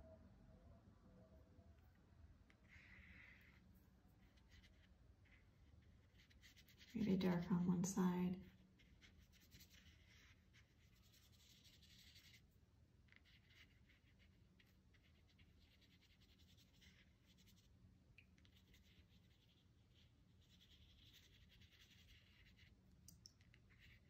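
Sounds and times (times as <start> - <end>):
low steady room hum: 0.0 - 24.0
brush strokes on paper: 2.6 - 17.7, 18.4 - 22.8.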